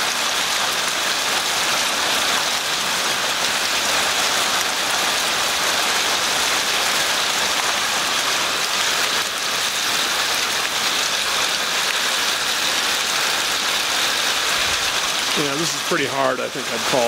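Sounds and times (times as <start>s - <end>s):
hail and rain pattering: 0.0s - 17.0s.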